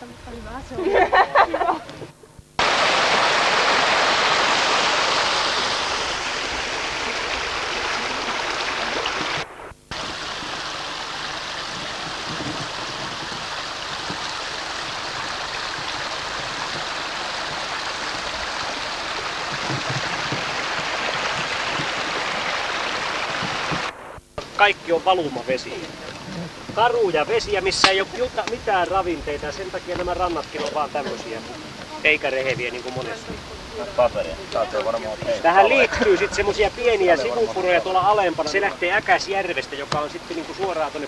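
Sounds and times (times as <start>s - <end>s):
water rushing in stream: 2.6s - 41.0s.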